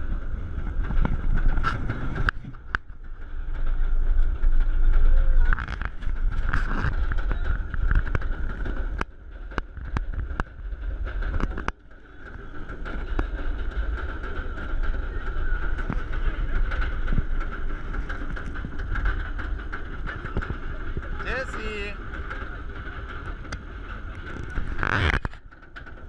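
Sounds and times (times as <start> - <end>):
roller coaster chain lift whirring: 0.0 - 26.0.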